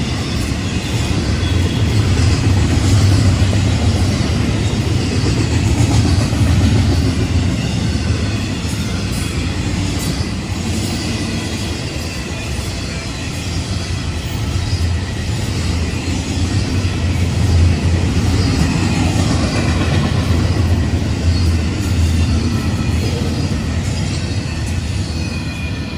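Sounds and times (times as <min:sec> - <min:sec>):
freight train wheels rumbling: 0:00.0 - 0:25.9.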